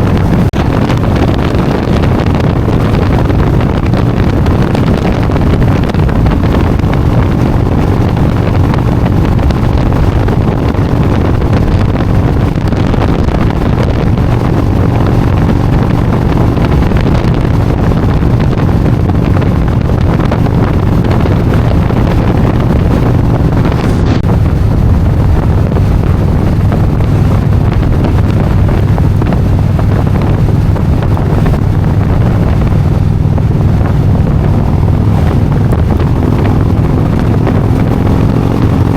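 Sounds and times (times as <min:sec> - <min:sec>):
motorcycle engine drone: 0:00.0 - 0:38.9
wind buffeting microphone: 0:00.0 - 0:38.9.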